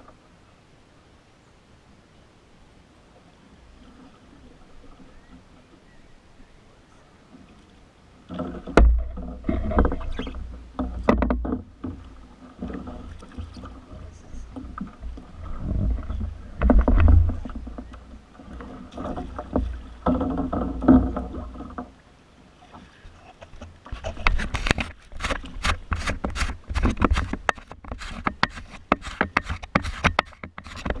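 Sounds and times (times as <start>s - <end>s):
paddle splashes and knocks: 3.6s - 6.1s, 7.3s - 31.0s.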